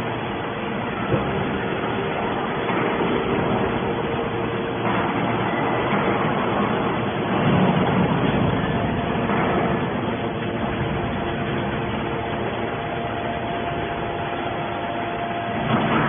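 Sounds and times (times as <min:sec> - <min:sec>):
hydraulic baler humming: 0:00.0 - 0:16.0.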